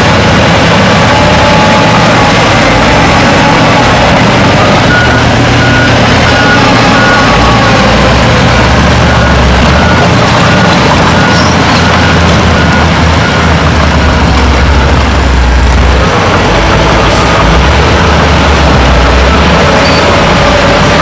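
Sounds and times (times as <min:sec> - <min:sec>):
heavy diesel machinery rumbling: 0:00.0 - 0:21.0.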